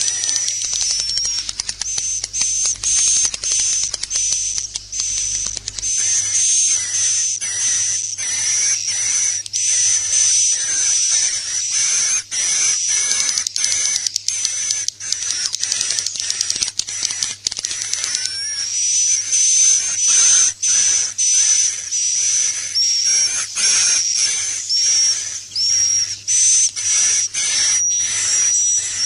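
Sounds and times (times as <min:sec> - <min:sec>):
swiftlets twittering: 0:00.0 - 0:12.4, 0:13.2 - 0:29.0.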